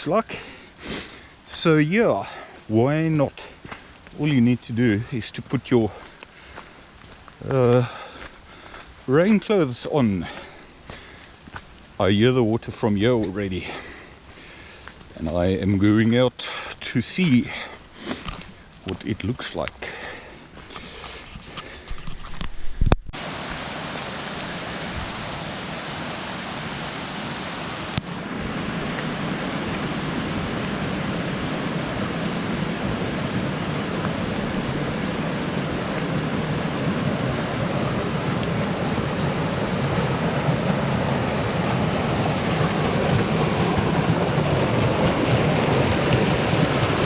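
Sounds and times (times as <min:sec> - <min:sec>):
stream rushing: 0:00.0 - 0:15.9, 0:23.2 - 0:47.0.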